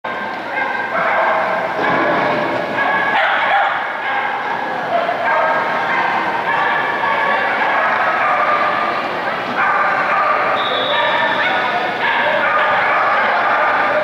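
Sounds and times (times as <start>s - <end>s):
dogs barking and yipping: 0.1s - 14.0s.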